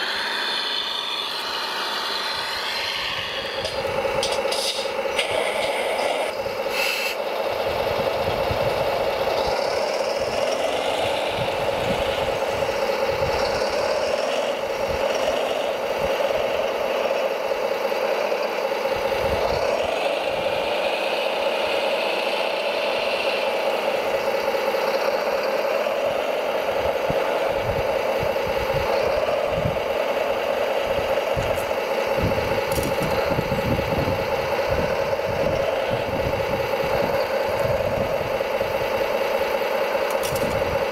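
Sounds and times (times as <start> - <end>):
mechanical drone with motor whine: 0.0 - 40.9.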